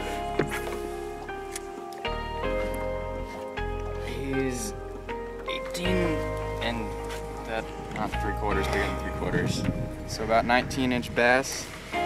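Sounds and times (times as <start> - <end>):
background music of held chords: 0.0 - 12.0.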